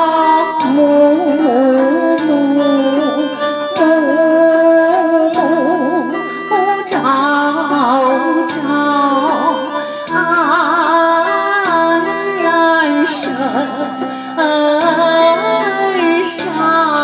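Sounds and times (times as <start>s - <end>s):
wavering sliding lead melody: 0.0s - 17.0s.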